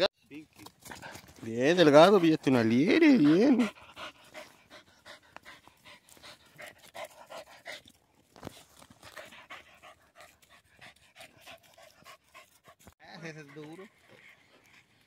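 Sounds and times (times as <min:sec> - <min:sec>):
dog panting: 0:00.7 - 0:08.0, 0:08.8 - 0:15.0.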